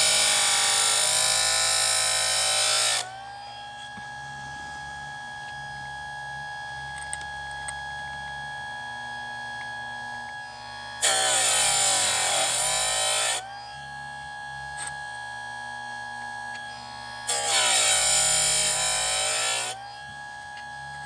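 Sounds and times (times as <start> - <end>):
sharpener motor humming: 0.0 - 21.0.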